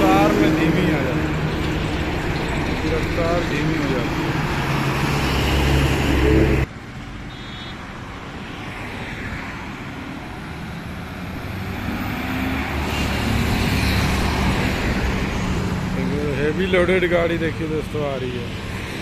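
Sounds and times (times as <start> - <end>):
truck diesel engine passing: 0.0 - 6.7, 8.6 - 19.0
highway traffic noise: 0.0 - 19.0.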